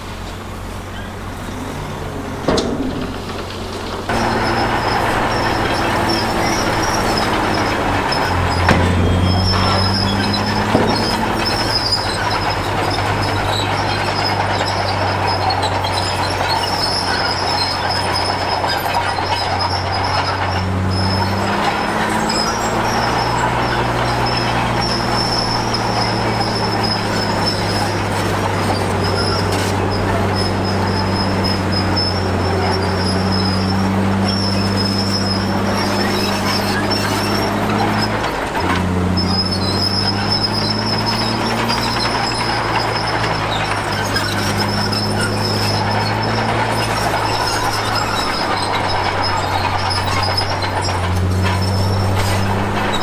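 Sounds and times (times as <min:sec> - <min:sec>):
bulldozer diesel engine running: 0:00.0 - 0:53.0
high-pitched metallic squeal: 0:00.0 - 0:53.0.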